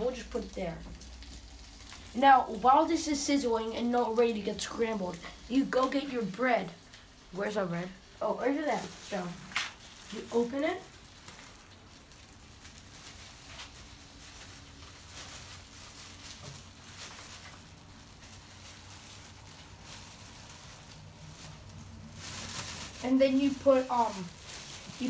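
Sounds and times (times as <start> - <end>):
plastic bag rustling: 0.0 - 25.0.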